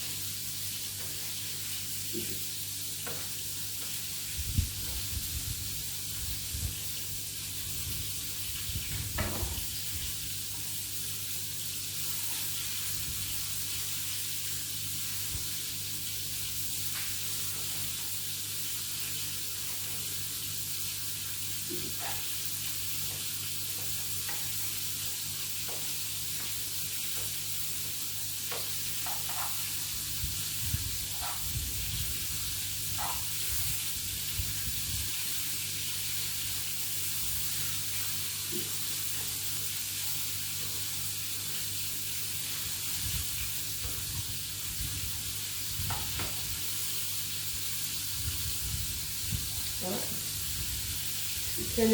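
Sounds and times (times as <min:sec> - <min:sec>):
vegetables sizzling in a pan: 0:00.0 - 0:51.9.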